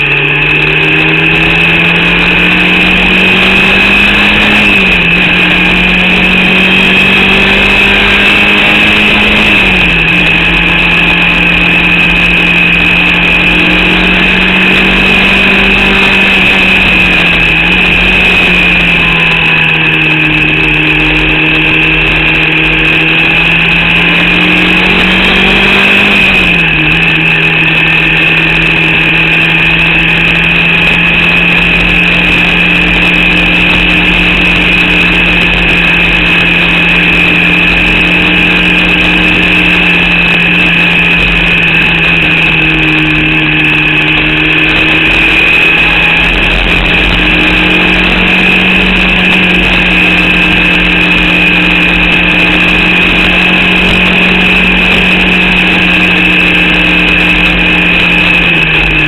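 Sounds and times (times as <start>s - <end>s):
racing engine running hard: 0.0s - 59.0s.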